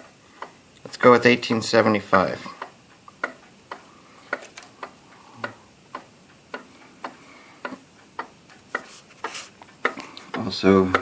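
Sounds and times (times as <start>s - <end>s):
mechanical clock ticking: 0.0s - 11.0s.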